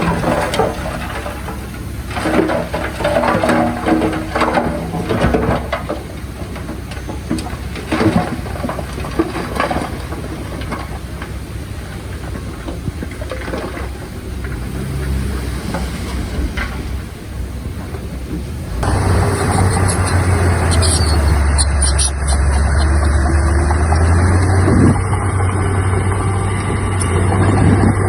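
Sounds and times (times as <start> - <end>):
diesel machinery rumbling: 0.0 - 28.0.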